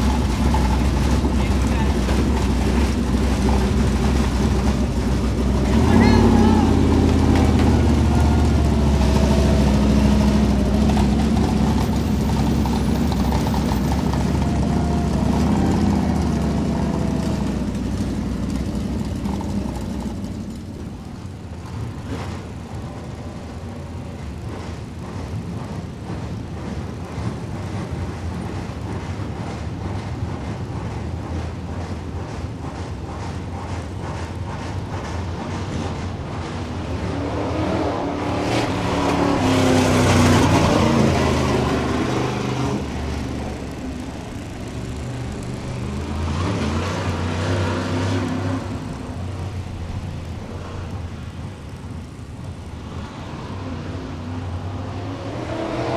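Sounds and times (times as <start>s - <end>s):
distant race car engines: 0.0s - 55.9s
race car engine running close: 0.0s - 55.9s.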